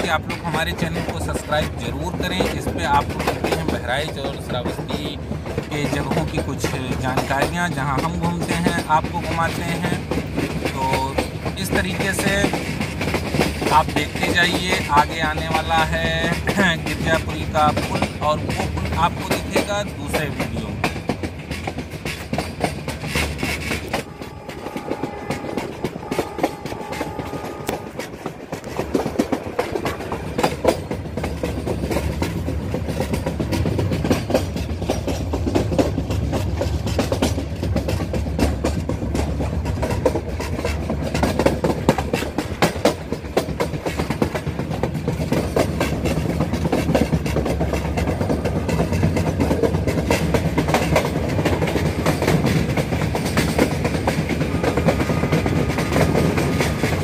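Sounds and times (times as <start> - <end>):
low train rumble: 0.0 - 57.0
train wheels clattering over rail joints: 0.0 - 57.0.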